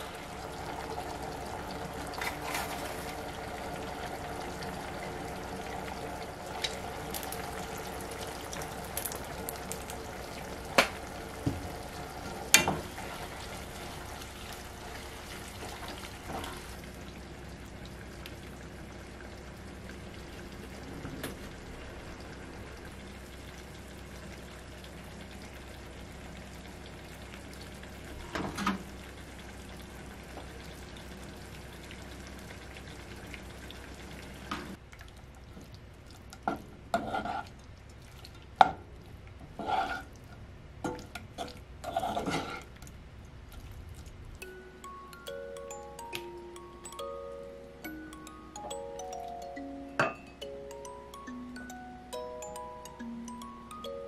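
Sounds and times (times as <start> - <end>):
broth simmering in a frying pan: 0.0 - 49.5
food cooking in a saucepan: 0.0 - 54.0.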